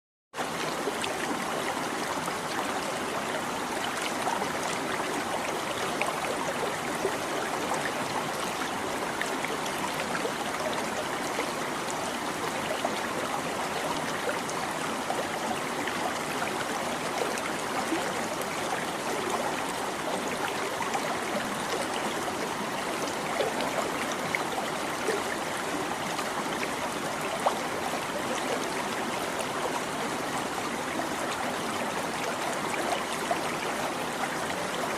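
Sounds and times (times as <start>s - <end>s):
stream babbling over rocks: 0.4s - 34.9s.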